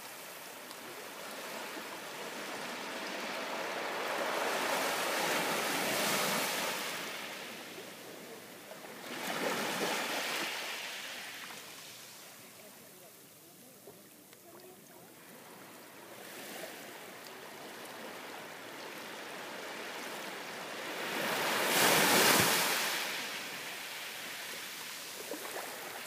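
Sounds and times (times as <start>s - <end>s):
sea waves washing onto beach: 0.0s - 26.0s.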